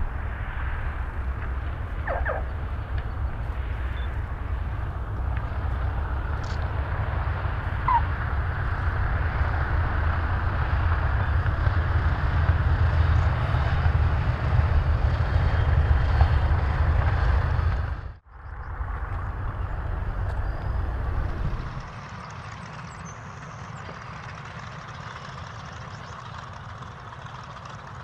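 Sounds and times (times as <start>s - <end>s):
piston engines rumbling: 0.0s - 28.0s.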